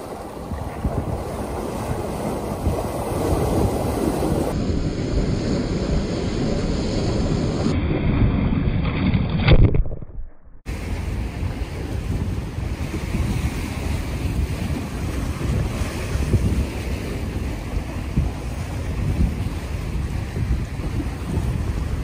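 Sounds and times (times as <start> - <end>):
wind buffeting microphone: 0.0 - 9.4, 10.7 - 22.0
sea waves breaking over rocks: 0.0 - 9.5, 10.7 - 22.0.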